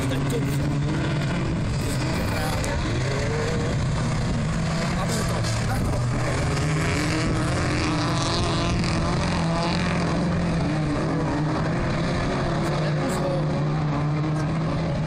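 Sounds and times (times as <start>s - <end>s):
race car engines droning: 0.0s - 15.0s.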